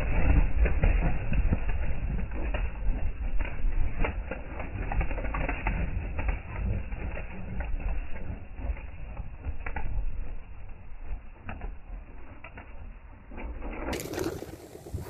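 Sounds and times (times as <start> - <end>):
wind rumble on microphone: 0.0 - 12.2, 13.3 - 15.0
pigeon wings flapping: 0.0 - 15.0.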